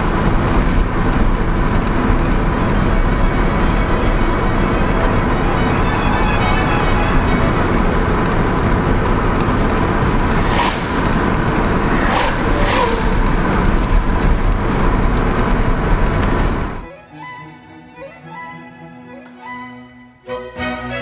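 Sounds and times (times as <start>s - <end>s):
car road and wind noise: 0.0s - 16.9s.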